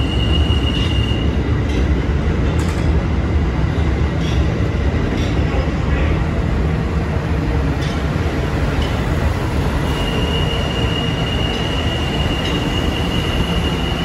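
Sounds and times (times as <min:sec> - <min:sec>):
high squeal of train: 0:00.0 - 0:02.8, 0:03.6 - 0:06.5, 0:07.5 - 0:14.0
subway train wheels rumbling: 0:00.0 - 0:14.0.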